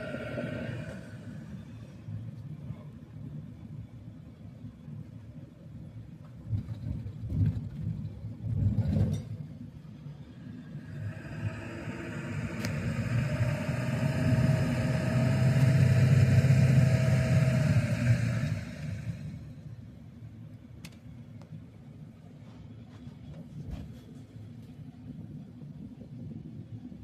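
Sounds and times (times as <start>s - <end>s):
road vehicle rumble and whine: 0.0s - 27.0s.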